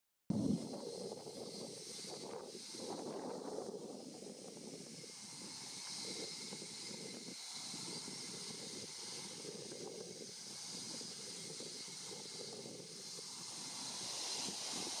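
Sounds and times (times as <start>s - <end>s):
steady high-pitched hiss: 0.3s - 15.0s
wind buffeting microphone: 0.3s - 15.0s.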